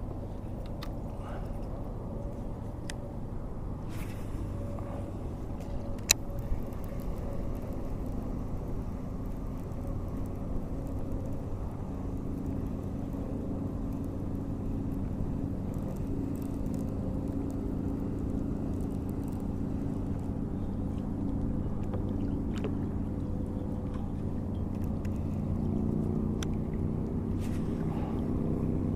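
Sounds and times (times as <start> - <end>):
boat motor humming: 0.0 - 28.9.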